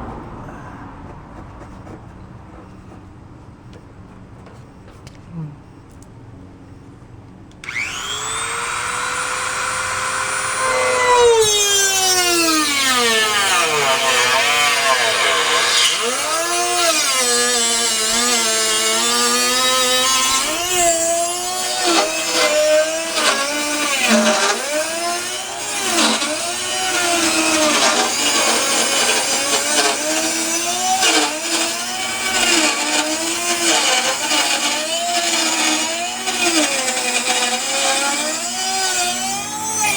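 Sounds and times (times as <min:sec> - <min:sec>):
power tool cutting metal panel: 0:07.6 - 0:39.9.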